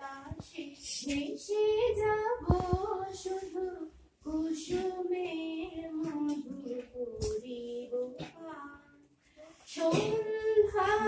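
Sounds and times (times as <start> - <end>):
woman singing unaccompanied: 0.0 - 9.1, 9.7 - 11.0.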